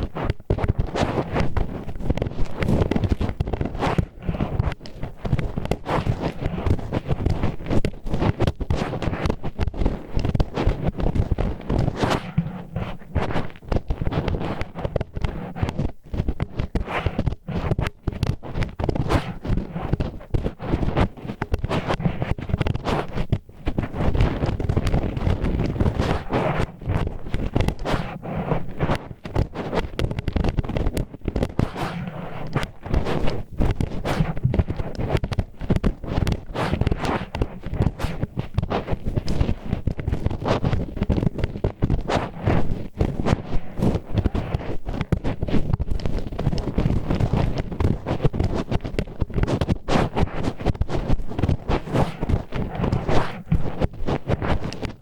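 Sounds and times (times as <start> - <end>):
chopsticks scraping microphone: 0.0 - 55.0.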